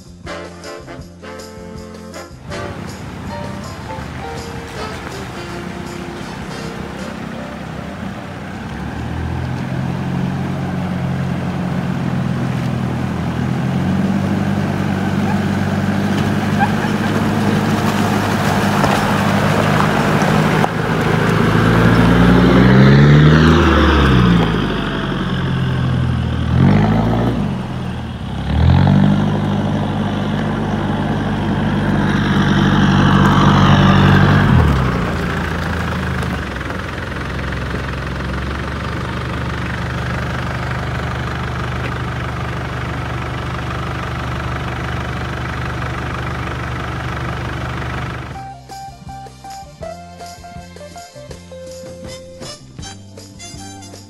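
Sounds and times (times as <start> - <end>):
diesel engine revving under load: 2.3 - 48.6.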